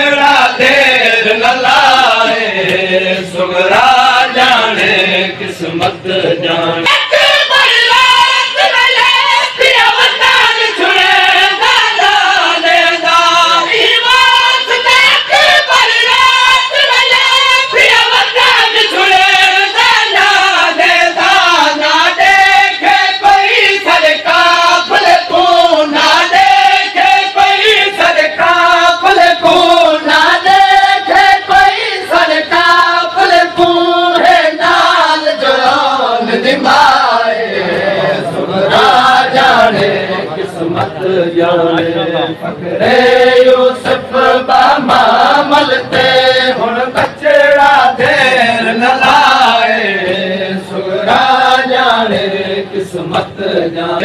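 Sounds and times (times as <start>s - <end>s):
group singing a lament in chorus: 0.0s - 54.0s.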